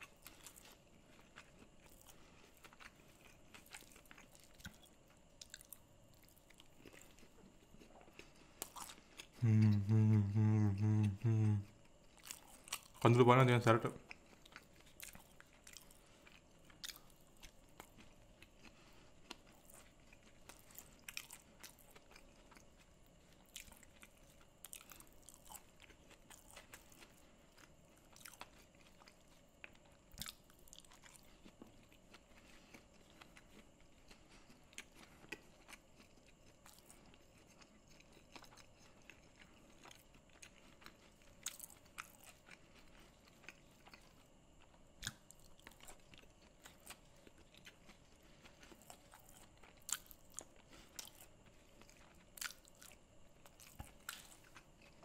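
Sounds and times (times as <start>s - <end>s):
chewing crunches and clicks: 0.0s - 55.0s.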